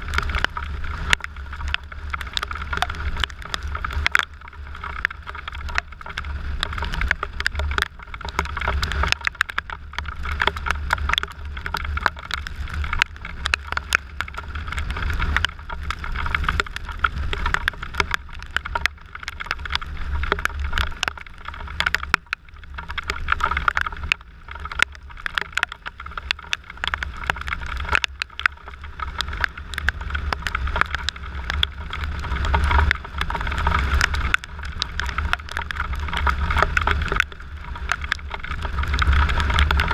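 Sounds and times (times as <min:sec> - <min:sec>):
raindrops ticking on camera: 0:00.0 - 0:39.9.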